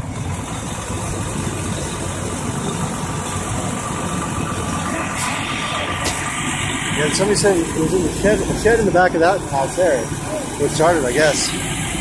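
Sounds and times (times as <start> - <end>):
fire engine motor rumbling: 0.0 - 12.0.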